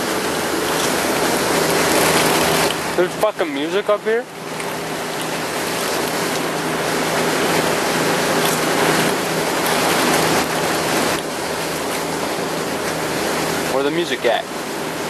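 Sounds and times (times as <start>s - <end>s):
faint low engine hum: 0.0s - 15.0s
wind and water rushing: 0.0s - 15.0s.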